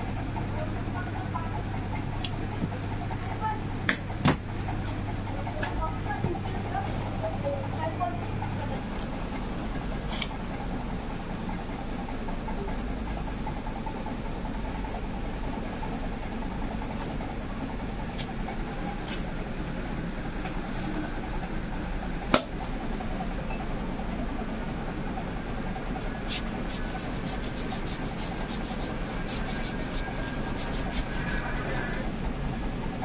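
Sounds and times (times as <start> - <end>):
engine-like drone: 0.0 - 33.0.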